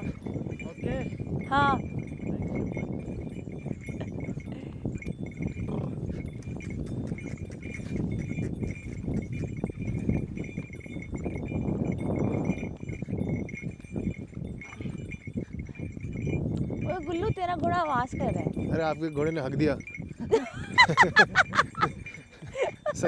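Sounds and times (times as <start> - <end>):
harness bell jingling: 0.0 - 23.0
horse hooves on dirt: 0.0 - 23.0.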